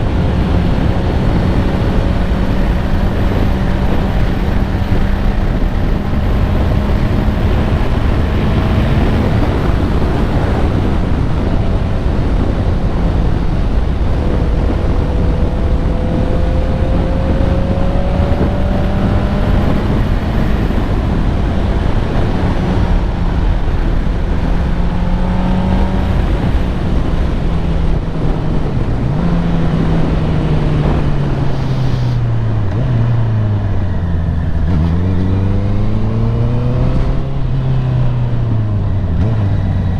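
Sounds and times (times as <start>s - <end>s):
motorcycle engine at steady revs: 0.0s - 39.9s
wind and road noise: 0.0s - 39.9s.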